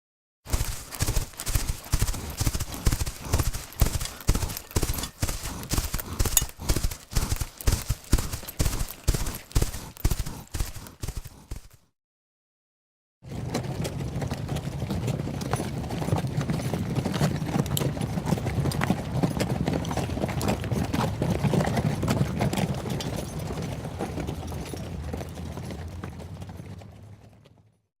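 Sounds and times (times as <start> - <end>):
horse hooves clip-clopping: 0.5 - 11.8, 13.3 - 27.8.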